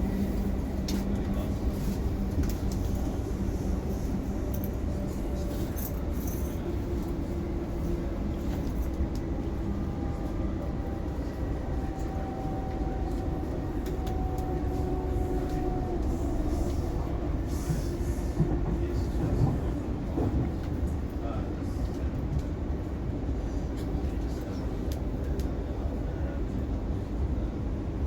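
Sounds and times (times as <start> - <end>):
faint train whine: 0.0 - 28.0
train carriage rumble: 0.0 - 28.0.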